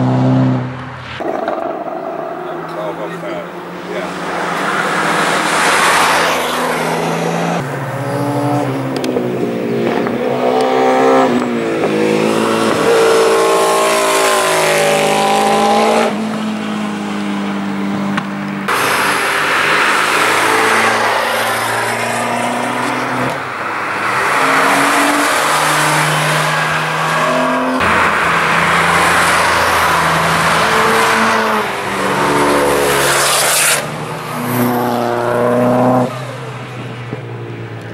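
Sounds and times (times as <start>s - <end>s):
race cars accelerating past: 0.0s - 37.9s.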